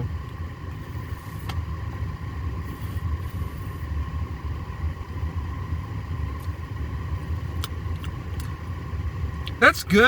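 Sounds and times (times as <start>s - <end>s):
car engine rumble from inside: 0.0s - 10.0s
faint steady hum: 0.0s - 10.0s.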